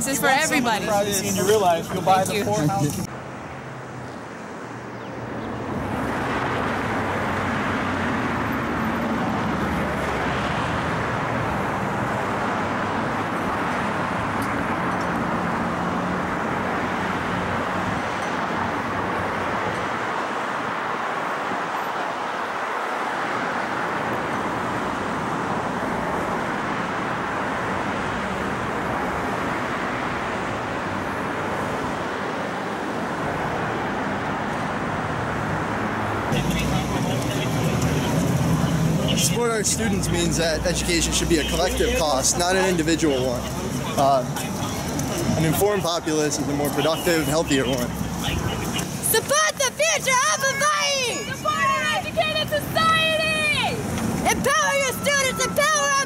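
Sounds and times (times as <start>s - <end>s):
steady road traffic: 0.0s - 56.0s.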